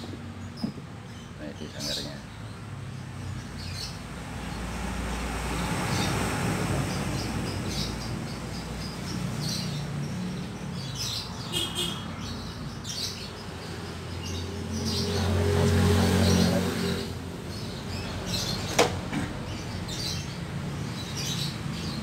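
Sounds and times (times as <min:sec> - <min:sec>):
canaries chirping: 0:00.0 - 0:22.0.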